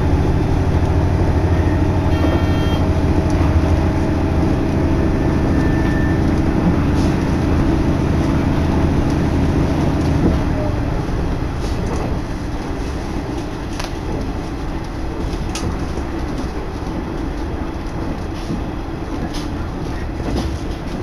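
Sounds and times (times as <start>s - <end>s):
diesel engine drone: 0.0s - 20.4s
train wheel rumble: 0.0s - 21.0s.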